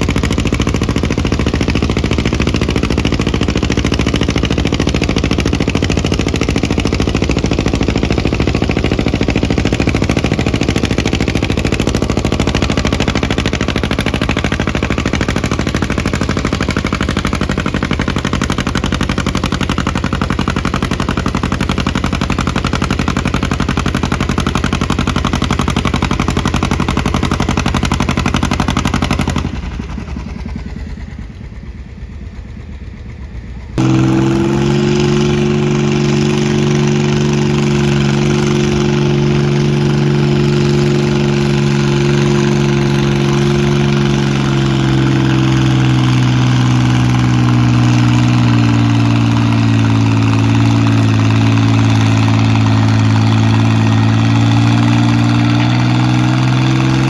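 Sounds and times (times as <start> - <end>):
tractor engine popping under load: 0.0 - 31.3, 33.8 - 57.0
tractor engine steady note: 0.0 - 57.0.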